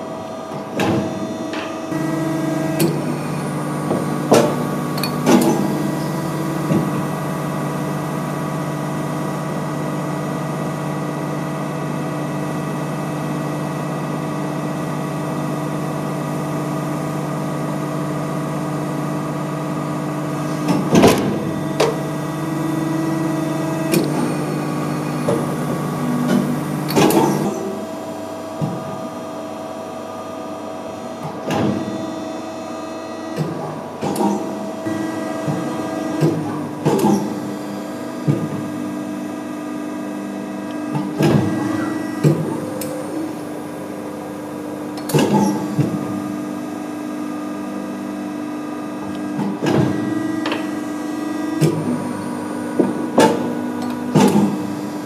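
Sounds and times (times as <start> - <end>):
machine hum: 0.0 - 55.0.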